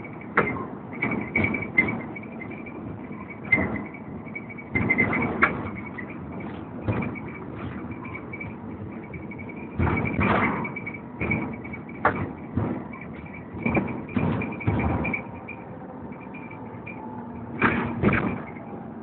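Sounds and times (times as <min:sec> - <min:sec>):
bus engine and road noise: 0:00.0 - 0:19.0
rattles and knocks from bus body: 0:00.0 - 0:19.0
steady high whine: 0:00.0 - 0:19.0.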